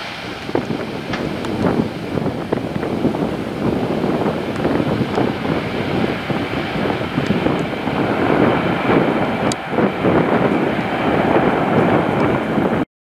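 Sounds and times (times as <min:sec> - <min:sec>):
jet engines rumbling at takeoff: 0:00.0 - 0:12.9.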